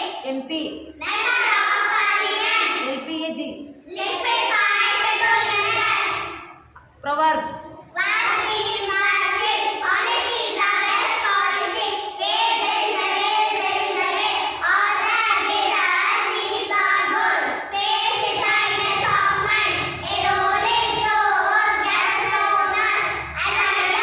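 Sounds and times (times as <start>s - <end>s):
girls singing in unison: 1.0s - 2.8s, 3.9s - 6.7s, 7.9s - 24.0s.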